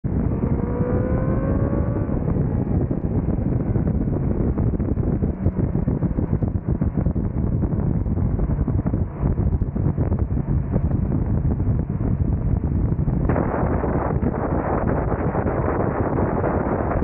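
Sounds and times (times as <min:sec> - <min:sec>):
road noise: 0:00.0 - 0:17.0
motorcycle engine: 0:00.1 - 0:17.0
wind buffeting microphone: 0:00.1 - 0:17.0.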